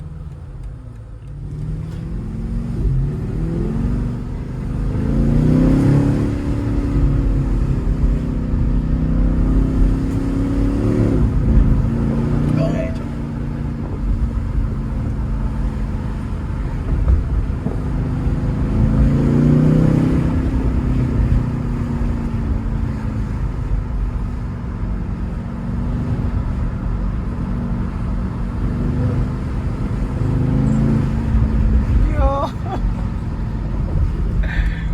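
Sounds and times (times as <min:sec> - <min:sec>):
car engine accelerating: 0:00.0 - 0:34.9
road rumble: 0:00.0 - 0:34.9.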